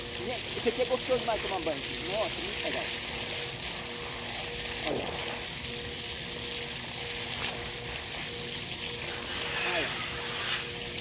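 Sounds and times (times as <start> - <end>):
water gushing and splashing: 0.0 - 11.0.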